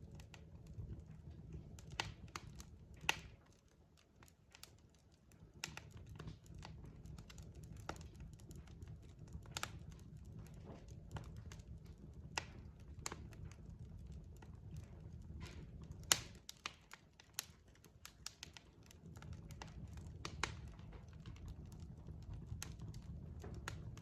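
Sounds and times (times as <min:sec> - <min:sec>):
low rumble of flame: 0:00.0 - 0:24.0
wood fire crackling: 0:00.0 - 0:24.0.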